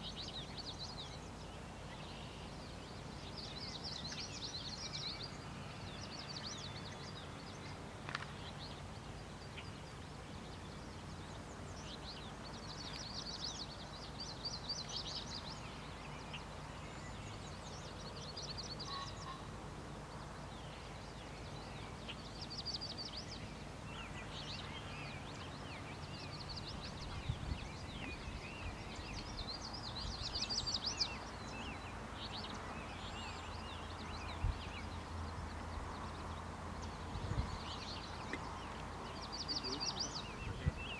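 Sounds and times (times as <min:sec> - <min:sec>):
low outdoor background hum: 0:00.0 - 0:40.9
small songbirds chirping: 0:00.0 - 0:40.9.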